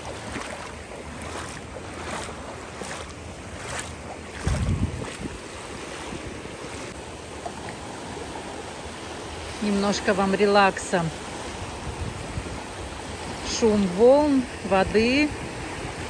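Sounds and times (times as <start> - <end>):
wind on microphone: 0.0 - 8.2, 11.2 - 16.0
sea waves splashing: 0.0 - 16.0.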